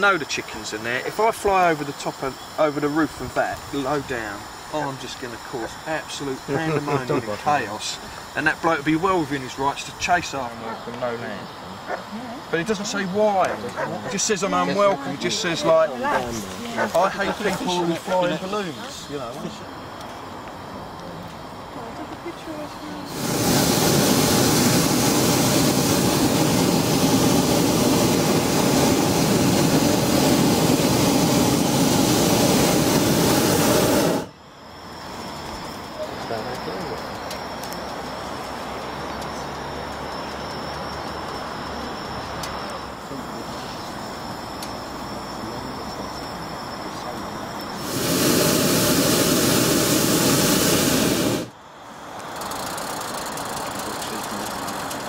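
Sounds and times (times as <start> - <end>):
propane burner blast: 0.0 - 19.3, 23.0 - 38.6, 40.4 - 55.0
faint steady background noise: 0.0 - 55.0.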